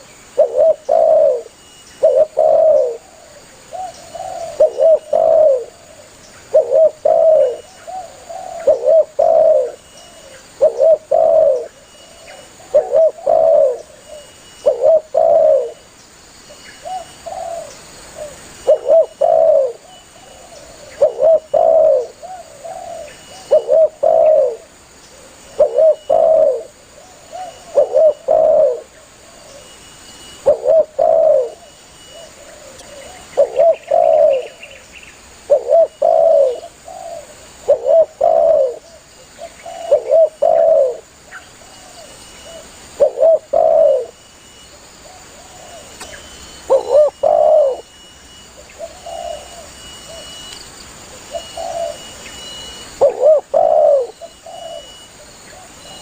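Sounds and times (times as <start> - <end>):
dove cooing: 0.0 - 15.8, 16.8 - 34.8, 35.4 - 44.2, 45.0 - 50.5, 51.1 - 56.0.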